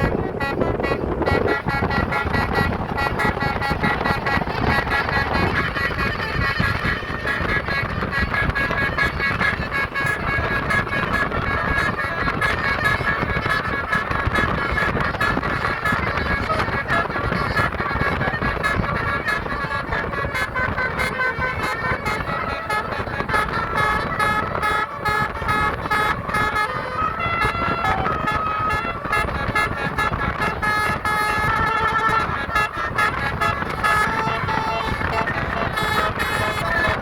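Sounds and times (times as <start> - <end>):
bus musical air horns: 0.0 - 37.0.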